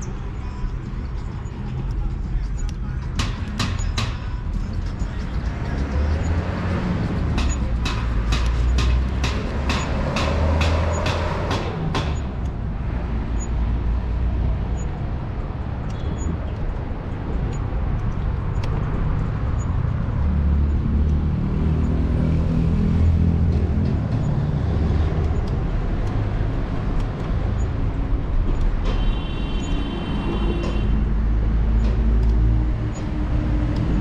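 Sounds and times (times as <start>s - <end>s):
road traffic rumble: 0.0s - 34.0s
sharp ticks: 0.0s - 34.0s.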